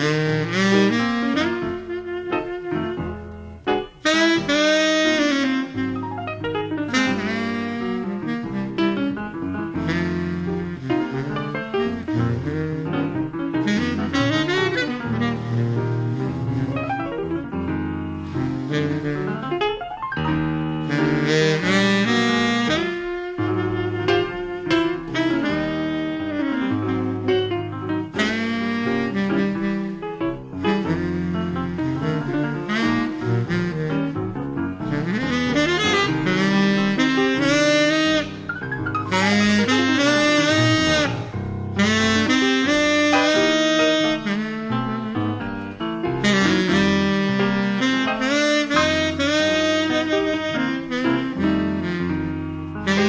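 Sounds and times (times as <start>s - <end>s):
double bass: 0.0s - 53.0s
jazz accompaniment instruments: 0.0s - 53.0s
piano: 0.0s - 53.0s
saxophone melody: 0.0s - 53.0s.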